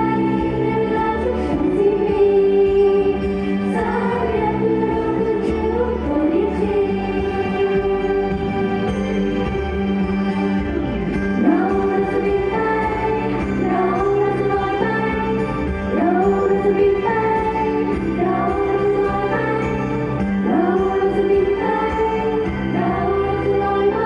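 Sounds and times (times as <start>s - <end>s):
women singing together: 0.0s - 8.6s, 11.4s - 24.0s
pop backing track: 0.0s - 24.0s.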